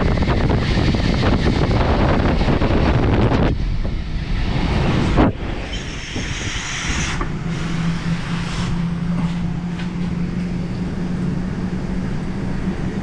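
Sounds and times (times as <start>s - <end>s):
air handler blower rushing: 0.0s - 13.0s.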